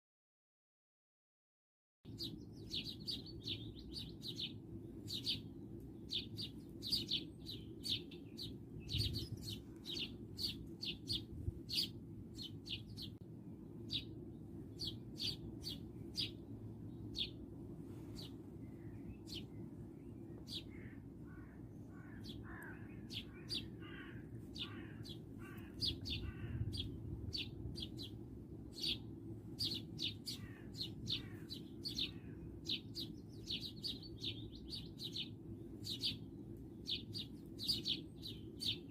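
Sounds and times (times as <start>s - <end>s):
bird chirping high: 2.1s - 13.2s, 13.9s - 17.4s, 18.1s - 38.9s.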